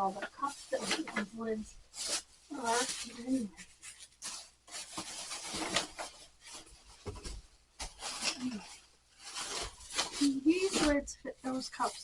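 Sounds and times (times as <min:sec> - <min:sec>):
rustling and scraping of plastic items: 0:00.0 - 0:12.0.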